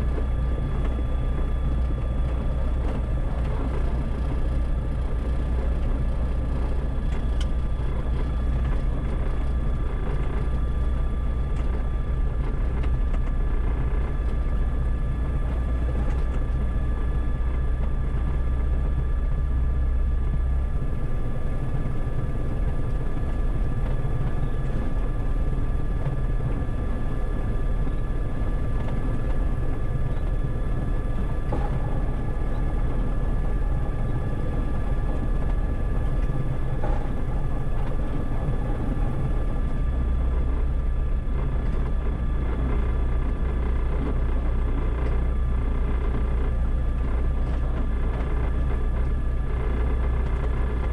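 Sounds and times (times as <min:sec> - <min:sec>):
propeller aircraft engine drone: 0:00.0 - 0:50.9.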